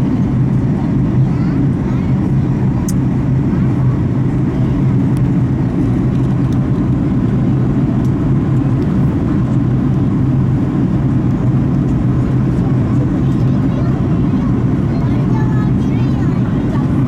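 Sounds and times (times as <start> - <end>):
airplane cabin rumble and drone: 0.0 - 17.0.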